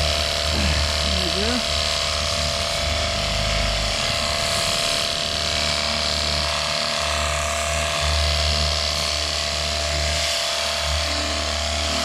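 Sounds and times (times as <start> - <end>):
pressure washer pump whine: 0.0 - 12.0.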